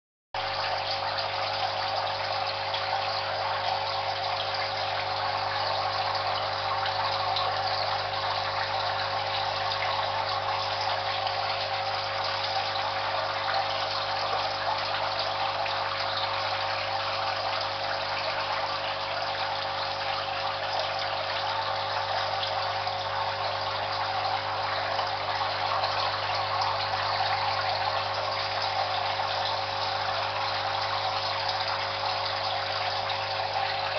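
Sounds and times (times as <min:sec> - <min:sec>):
aquarium pump humming: 0:00.4 - 0:33.9
water bubbling and gushing: 0:00.4 - 0:33.9.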